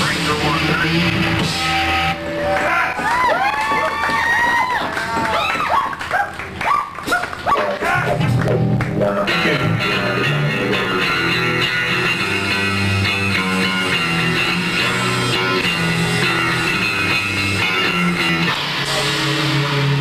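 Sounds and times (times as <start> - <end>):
rock band playing live: 0.0 - 5.8, 6.4 - 20.0.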